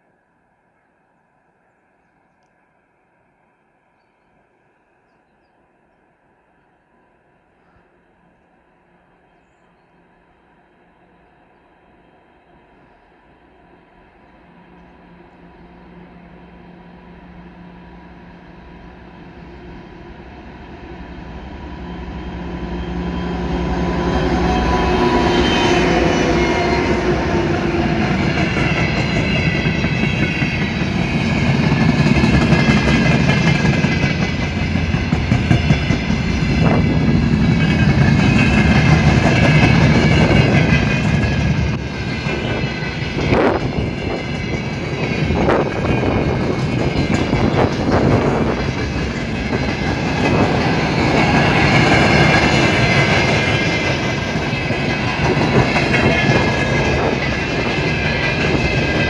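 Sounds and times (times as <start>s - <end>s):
diesel locomotive engine hum: 0.0s - 59.0s.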